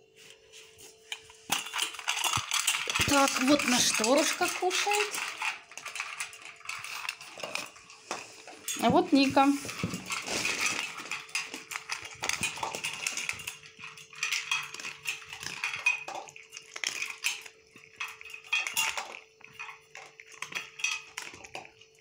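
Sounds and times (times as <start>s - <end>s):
dogs crunching kibble: 0.9s - 22.0s.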